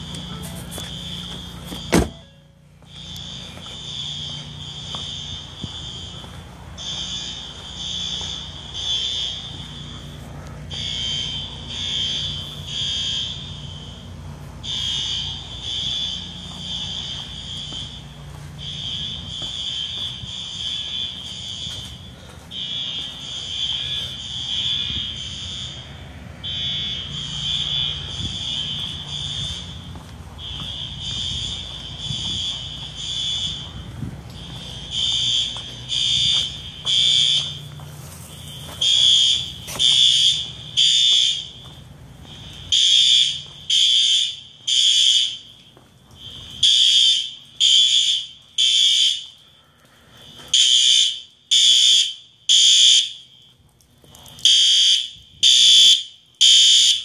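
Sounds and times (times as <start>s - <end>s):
fire alarm horn beeps: 0.0s - 57.0s.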